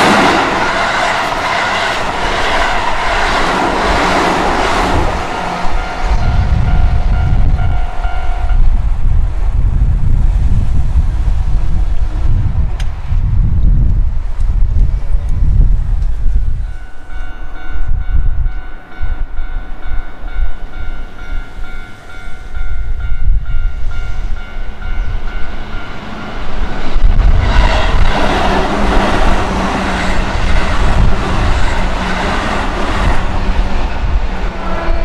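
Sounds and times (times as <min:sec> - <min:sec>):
electric train passing: 0:00.0 - 0:35.0
wind buffeting microphone: 0:00.0 - 0:35.0.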